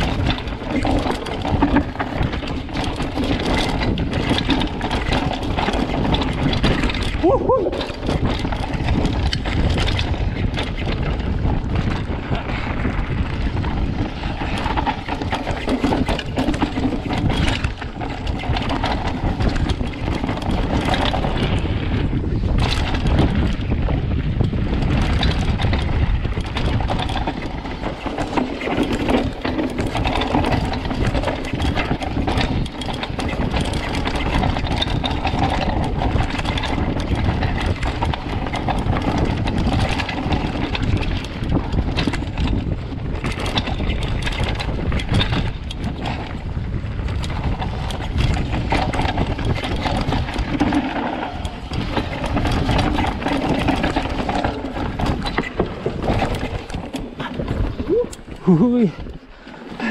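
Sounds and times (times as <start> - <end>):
bike rattling and knocking: 0.0 - 59.9
bike tyres on dirt: 0.0 - 59.9
wind buffeting microphone: 0.0 - 59.9.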